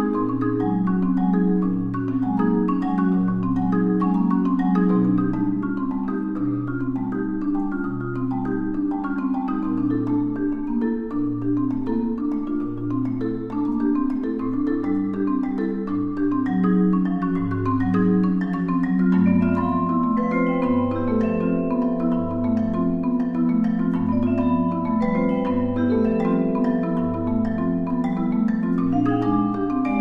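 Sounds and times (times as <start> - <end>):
marimbas playing: 0.0 - 30.0
vibraphone ringing notes: 0.0 - 30.0.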